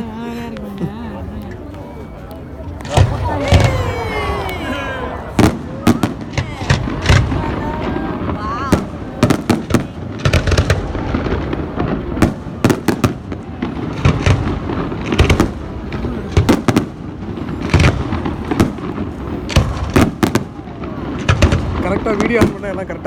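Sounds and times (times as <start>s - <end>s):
fireworks bangs and cracks: 2.6s - 23.0s.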